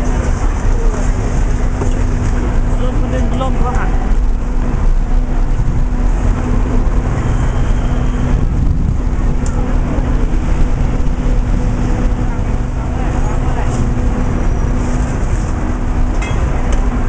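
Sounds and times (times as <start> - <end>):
constant low hum: 0.0 - 17.0
road traffic rumble: 0.0 - 17.0.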